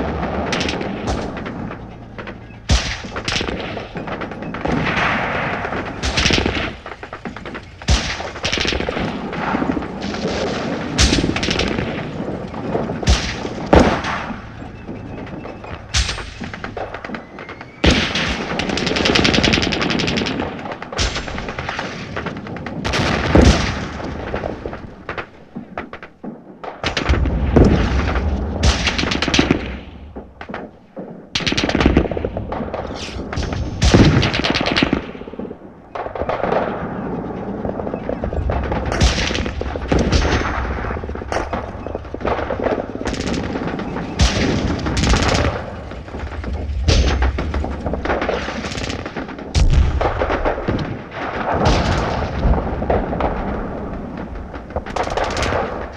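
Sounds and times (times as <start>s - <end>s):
low booming explosions: 0.0s - 55.9s
rifle shots: 0.0s - 55.9s.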